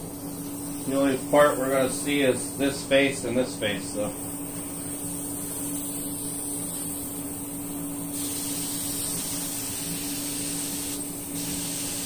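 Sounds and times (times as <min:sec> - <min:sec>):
steady low hum: 0:00.0 - 0:12.0
spray gun hissing: 0:00.3 - 0:07.3, 0:08.1 - 0:12.0.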